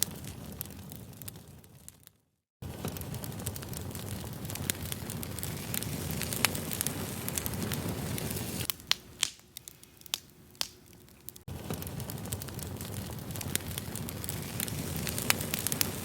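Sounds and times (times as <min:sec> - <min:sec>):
campfire burning: 0:00.0 - 0:16.0
fire crackles and pops: 0:00.0 - 0:16.0.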